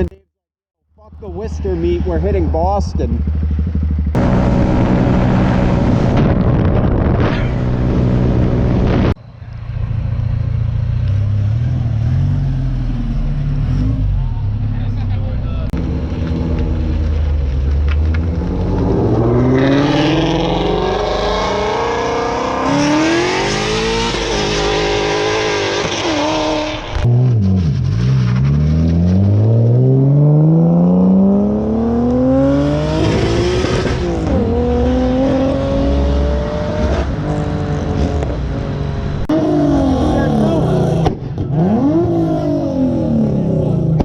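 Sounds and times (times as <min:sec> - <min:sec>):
vehicle engine accelerating: 0:01.0 - 0:44.0.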